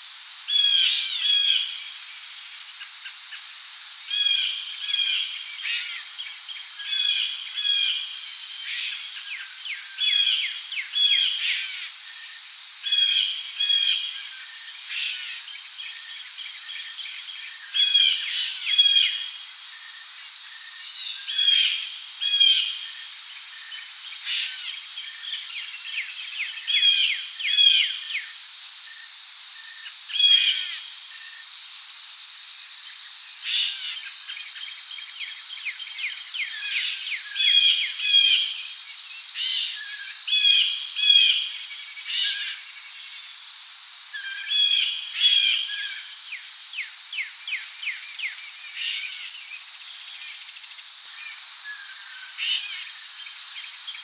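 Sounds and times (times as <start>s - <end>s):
crickets and insects droning: 0.0s - 54.0s.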